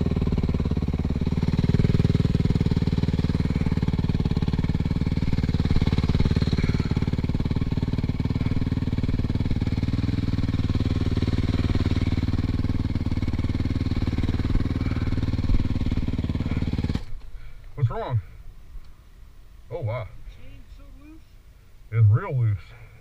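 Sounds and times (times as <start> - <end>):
dirt bike engine idling: 0.0 - 20.6.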